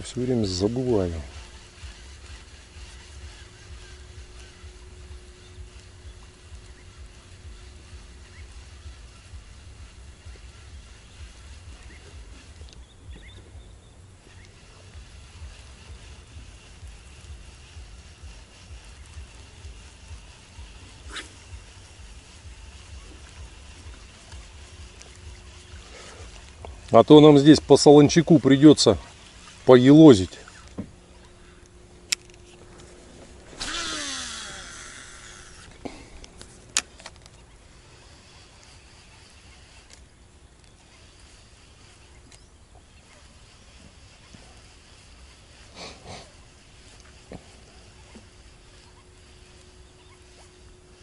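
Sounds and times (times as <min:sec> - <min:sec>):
sharp reel clicks: 0:00.0 - 0:13.6, 0:14.2 - 0:51.0
fishing reel whirring: 0:00.0 - 0:51.0.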